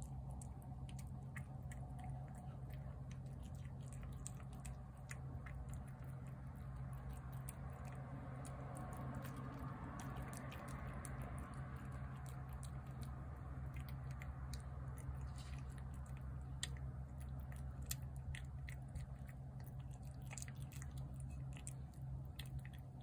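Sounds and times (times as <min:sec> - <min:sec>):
cat chewing wet food: 0:00.0 - 0:23.0
low hum: 0:00.0 - 0:23.0.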